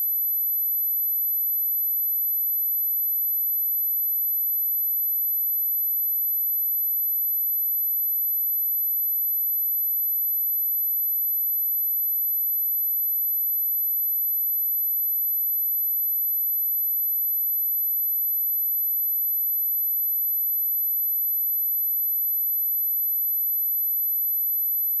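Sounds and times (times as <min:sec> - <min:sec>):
high-pitched sine test tone: 0:00.0 - 0:25.0.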